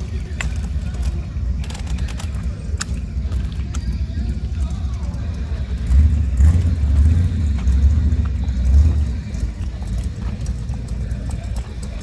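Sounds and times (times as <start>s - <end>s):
car engine exhaust rumble: 0.0s - 12.0s.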